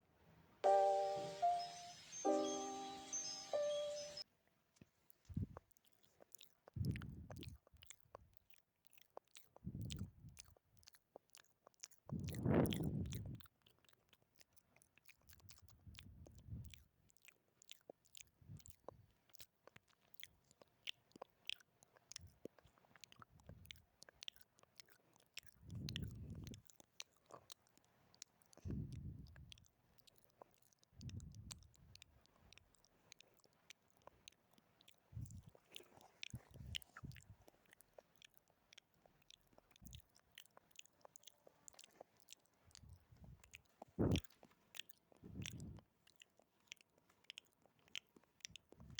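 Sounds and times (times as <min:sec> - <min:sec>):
wet tongue and lip clicks: 0:04.8 - 0:48.9.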